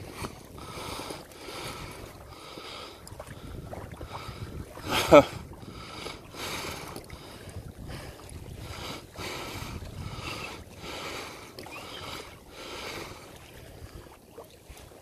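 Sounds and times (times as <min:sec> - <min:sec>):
water washing around kayak: 0:00.0 - 0:15.0
wind: 0:00.0 - 0:15.0
person breathing hard: 0:00.6 - 0:14.0.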